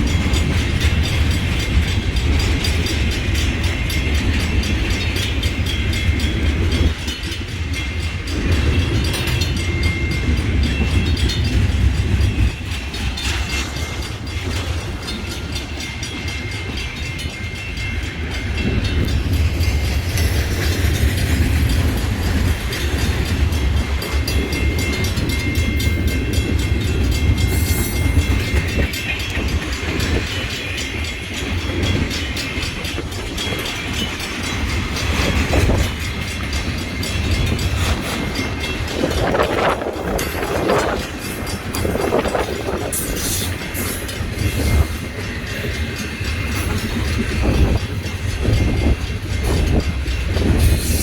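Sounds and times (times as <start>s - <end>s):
train passing rumble: 0.0s - 51.0s.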